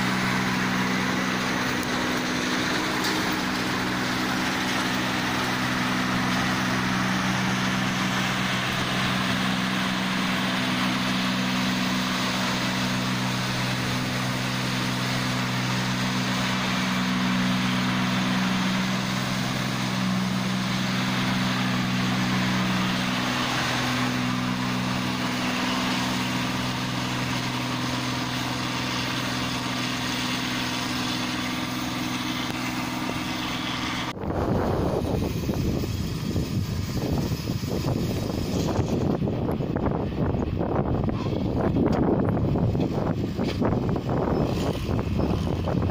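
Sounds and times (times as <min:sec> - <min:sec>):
diesel engine under load: 0:00.0 - 0:45.9
threshing machinery rush: 0:00.0 - 0:45.9.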